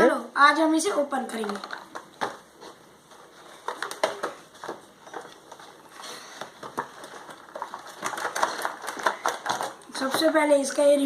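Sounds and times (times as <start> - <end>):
packaging crackling and rustling: 1.3 - 11.0.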